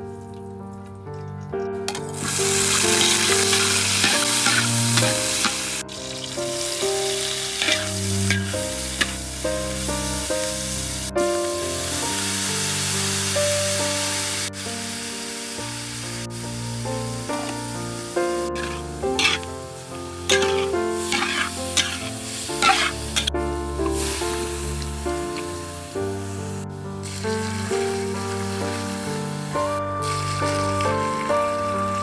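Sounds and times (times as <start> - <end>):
background music with melody: 0.0 - 32.0
food sizzling in hot oil: 1.9 - 32.0.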